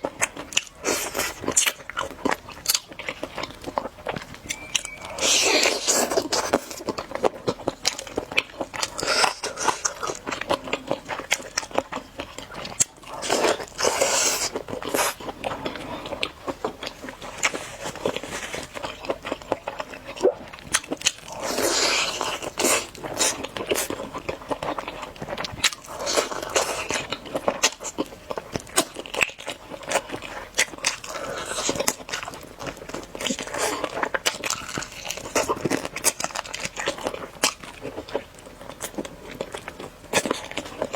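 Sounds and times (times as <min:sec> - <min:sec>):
chewing crunchy chicken: 0:00.0 - 0:40.9.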